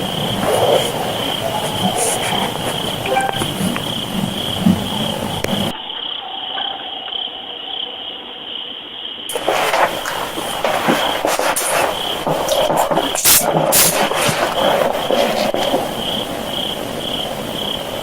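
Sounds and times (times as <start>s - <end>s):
insects chorus pulsing: 0.0s - 18.0s.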